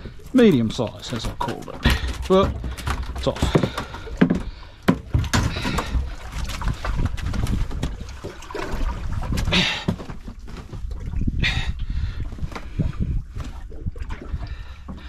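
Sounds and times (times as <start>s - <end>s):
water trickling and lapping: 0.0s - 15.0s
knocks and clicks on boat deck: 0.4s - 10.9s, 12.3s - 15.0s.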